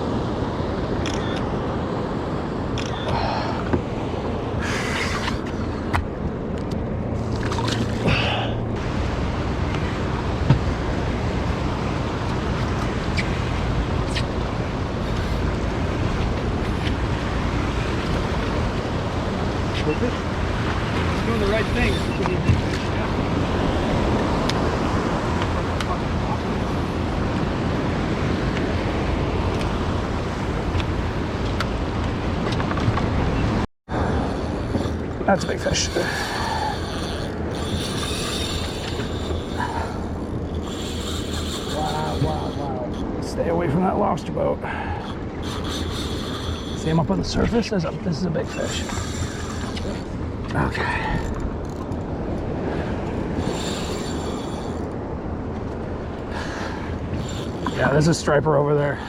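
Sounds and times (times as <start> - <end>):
water washing around boat: 0.0 - 59.0
wind: 0.0 - 59.0.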